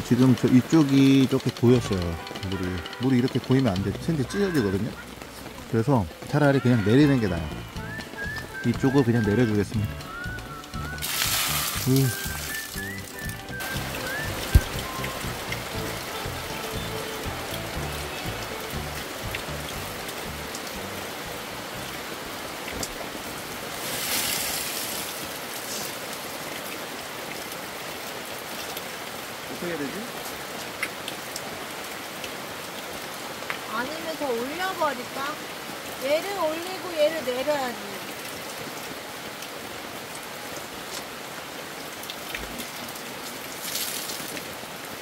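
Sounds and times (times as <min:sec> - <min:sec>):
rain drop ticks: 0:00.0 - 0:44.6
rain on a tarp: 0:00.0 - 0:45.0.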